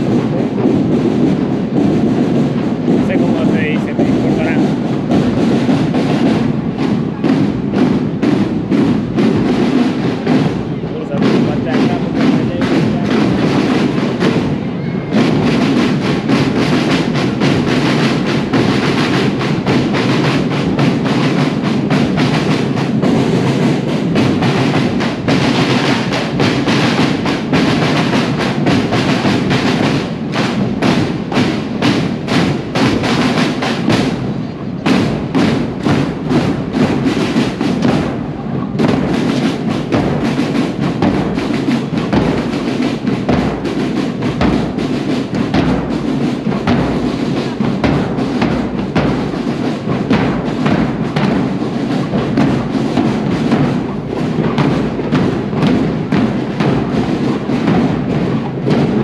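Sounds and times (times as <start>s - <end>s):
marching drums: 0.0s - 59.0s.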